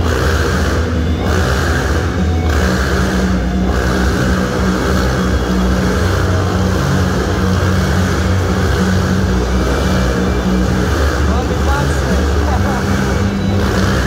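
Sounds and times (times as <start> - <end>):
motorcycle engine drone: 0.0 - 14.0.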